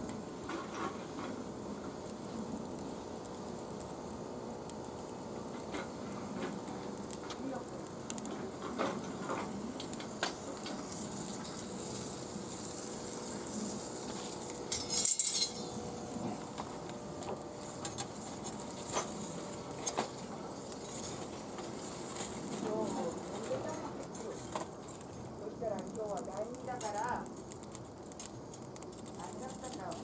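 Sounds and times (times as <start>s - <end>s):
hissing rustle: 0.4s - 15.0s, 15.6s - 30.0s.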